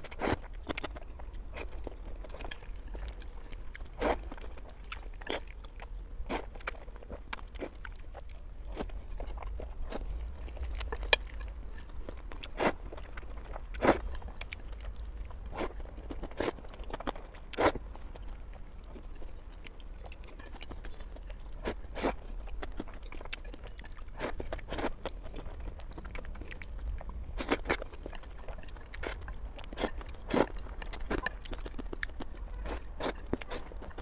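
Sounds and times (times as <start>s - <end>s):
slurping and chewing noodles: 0.0s - 34.0s.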